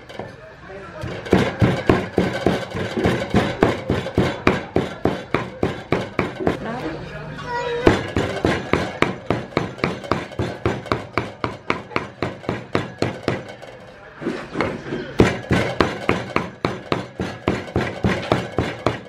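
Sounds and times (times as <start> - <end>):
cleaver chopping on wooden block: 1.0 - 6.6, 7.9 - 13.6, 14.6 - 19.0.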